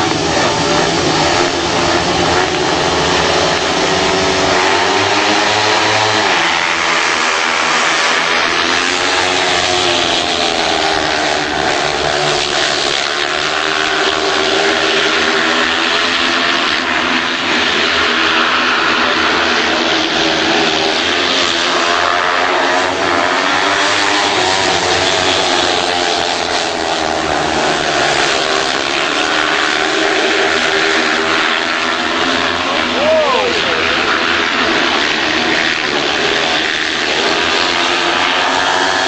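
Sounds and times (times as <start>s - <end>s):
motorcycle engines racing: 0.0s - 39.0s.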